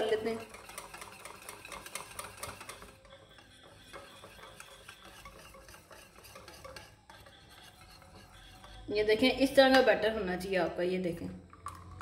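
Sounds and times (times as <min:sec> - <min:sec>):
wet stirring: 0:00.0 - 0:09.9
whisk ticking against bowl: 0:00.0 - 0:10.0.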